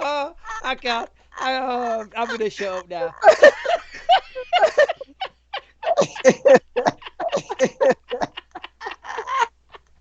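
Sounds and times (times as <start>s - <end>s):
people laughing hard: 0.5s - 9.9s.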